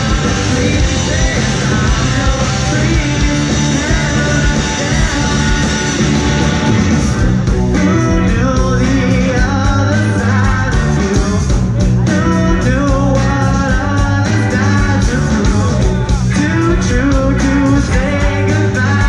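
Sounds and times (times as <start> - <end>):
guitar: 0.0 - 19.0
person singing: 0.0 - 19.0
rock band playing live: 0.0 - 19.0.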